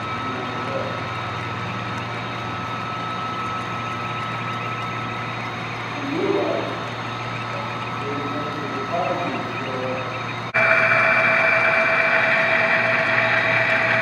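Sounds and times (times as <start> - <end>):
model train rumble and hum: 0.0 - 14.0
thin steady whine: 0.0 - 14.0.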